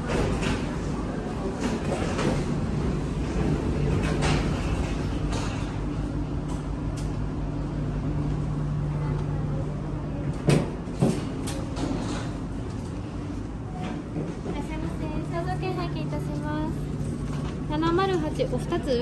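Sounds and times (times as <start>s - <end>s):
low machinery and ventilation hum: 0.0s - 19.0s.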